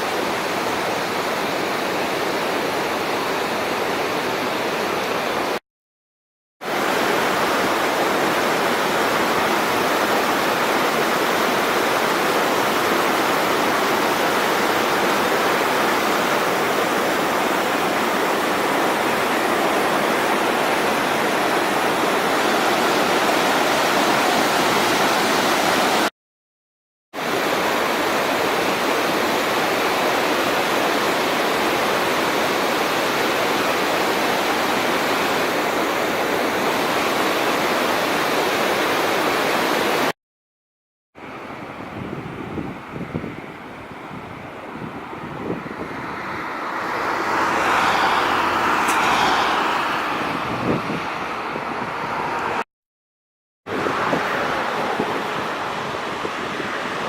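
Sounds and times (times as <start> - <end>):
river water rushing: 0.0 - 5.6, 6.7 - 26.1, 27.2 - 40.1, 41.2 - 42.0, 42.6 - 52.6, 53.7 - 57.0.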